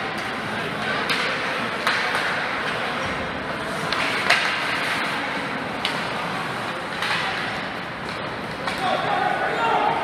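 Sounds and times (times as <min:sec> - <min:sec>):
crowd noise: 0:00.0 - 0:10.0.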